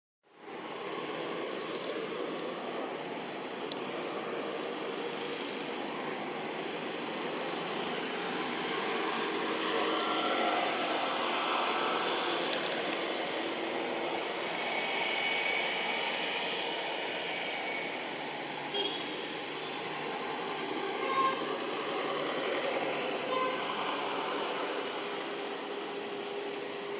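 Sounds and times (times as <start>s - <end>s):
distant traffic: 0.3s - 26.9s.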